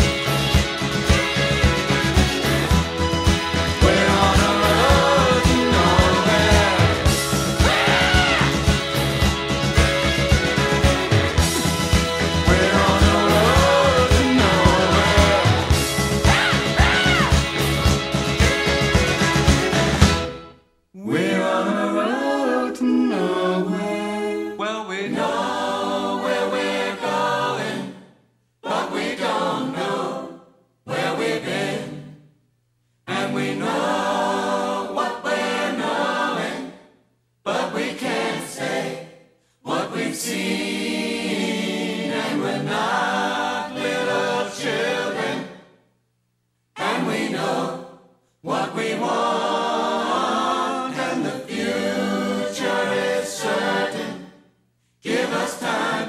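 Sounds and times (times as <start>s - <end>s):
choral singing: 0.0s - 20.4s, 21.0s - 32.3s, 33.1s - 45.8s, 46.8s - 56.0s.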